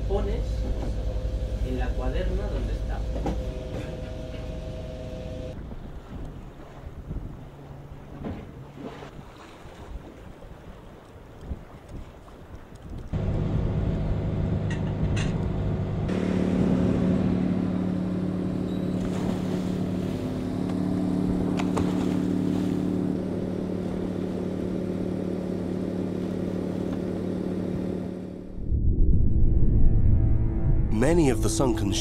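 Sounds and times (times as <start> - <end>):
boat engine running: 0.0 - 11.8, 12.6 - 28.6, 29.6 - 32.0.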